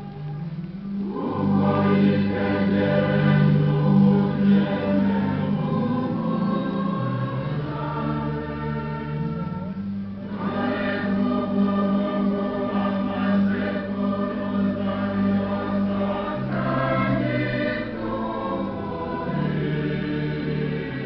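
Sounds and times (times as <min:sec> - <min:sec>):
choir singing a hymn: 0:00.9 - 0:21.0.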